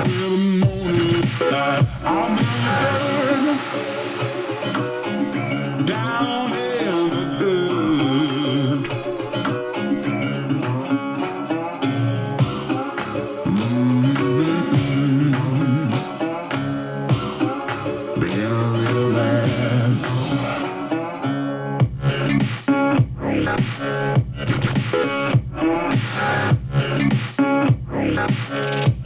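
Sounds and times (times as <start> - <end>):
song with guitar and singing: 0.0 - 28.8.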